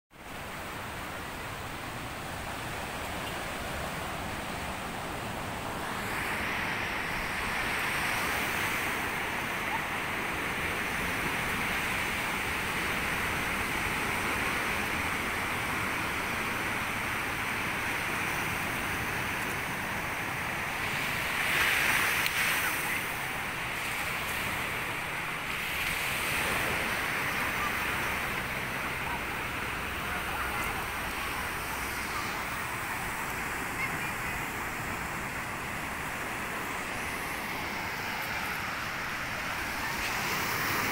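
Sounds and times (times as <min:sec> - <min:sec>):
ocean surf breaking on shore: 0:00.2 - 0:40.9.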